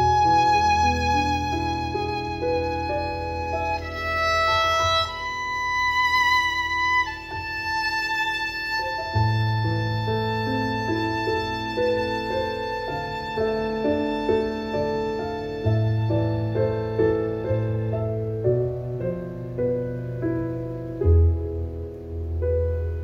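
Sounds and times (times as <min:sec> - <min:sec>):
piano accompaniment: 0:00.0 - 0:23.0
violin slow melody: 0:00.0 - 0:23.0.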